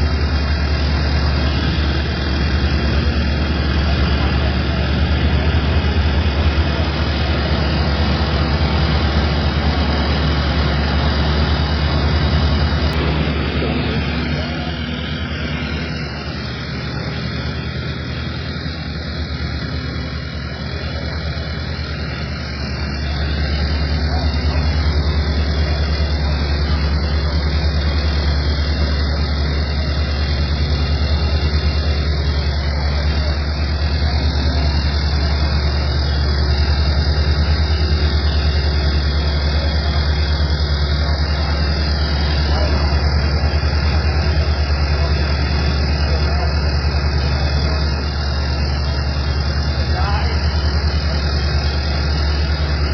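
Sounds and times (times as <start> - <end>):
vehicle low rumble: 0.0 - 52.9.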